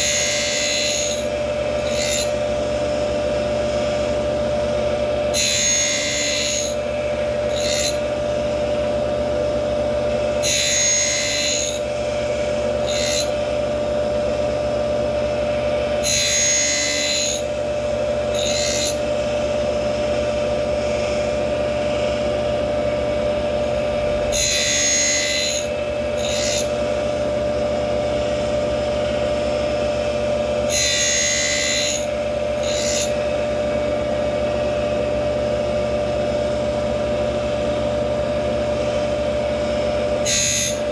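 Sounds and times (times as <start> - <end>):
grinder wheel whine: 0.0 - 40.9.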